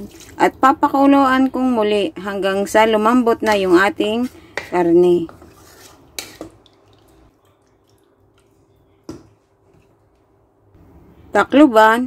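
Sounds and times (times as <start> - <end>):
faint watery sounds in pot: 0.0 - 10.2.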